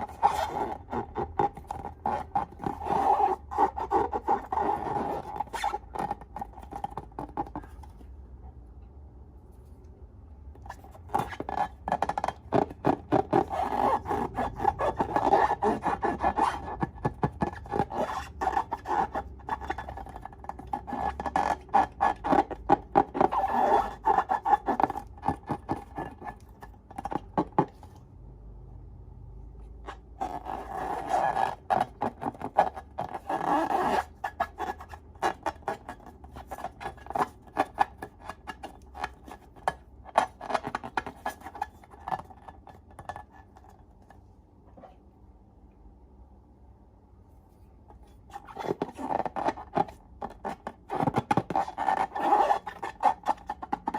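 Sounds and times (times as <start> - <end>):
slime stirred and scraped: 0.0 - 8.2, 10.5 - 28.1, 29.7 - 45.0, 47.4 - 53.9.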